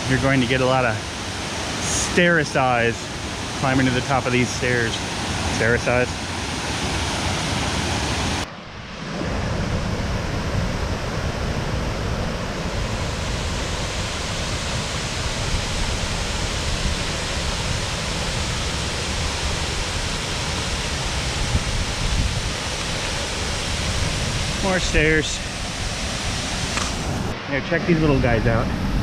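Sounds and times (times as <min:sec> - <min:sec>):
waterfall rushing: 0:00.0 - 0:28.6.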